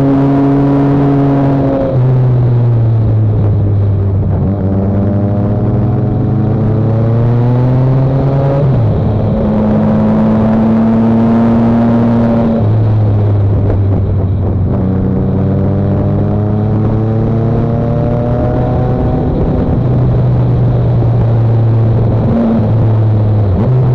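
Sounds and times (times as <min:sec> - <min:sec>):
motorcycle engine revving: 0:00.0 - 0:23.9
wind and road noise: 0:00.0 - 0:23.9.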